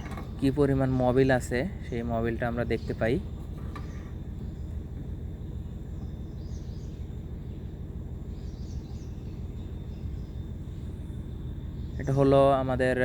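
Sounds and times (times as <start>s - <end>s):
faint bird chirps: 0.0s - 13.0s
steady low rumble: 0.0s - 13.0s.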